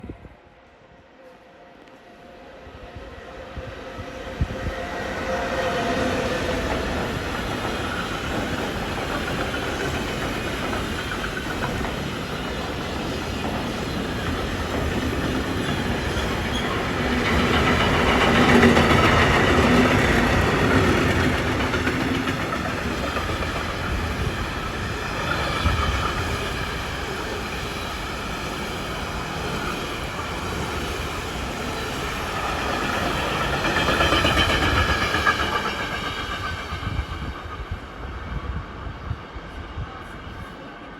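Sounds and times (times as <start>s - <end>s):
freight train wagons rumbling: 4.5s - 38.6s.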